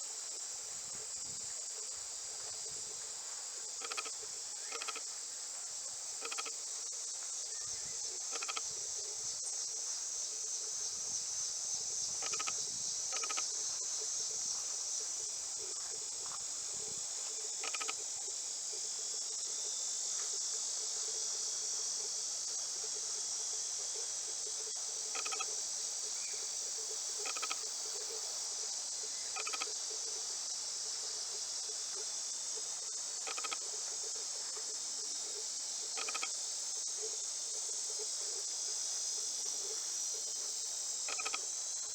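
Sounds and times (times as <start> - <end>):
high-pitched insect chorus: 0.0 - 41.9
short insect chirps: 3.6 - 5.3, 6.1 - 20.8, 23.4 - 41.9.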